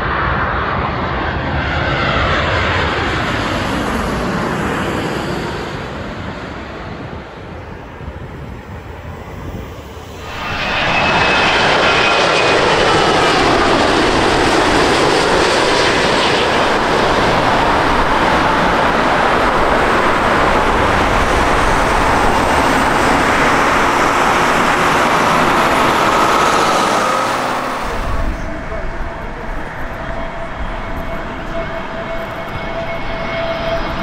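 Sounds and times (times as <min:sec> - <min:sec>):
jet engines roaring on approach: 0:00.0 - 0:34.0.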